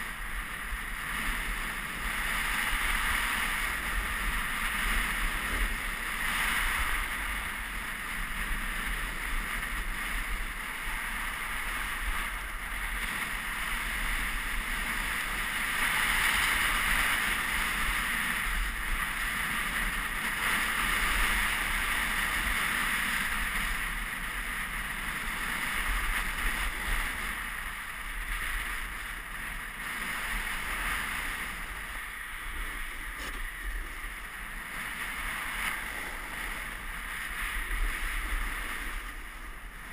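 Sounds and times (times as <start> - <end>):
snowboard scraping over snow: 0.0 - 39.9
wind rumbling on microphone: 0.0 - 39.9.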